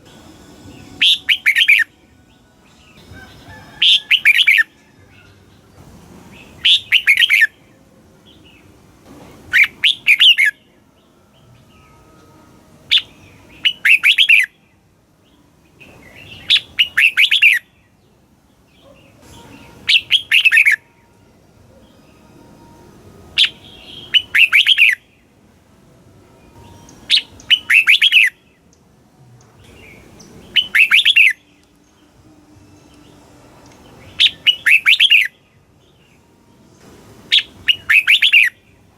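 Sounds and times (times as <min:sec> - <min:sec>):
bird singing bright notes: 0:00.0 - 0:08.8, 0:09.4 - 0:25.4, 0:26.4 - 0:28.8, 0:29.4 - 0:38.8.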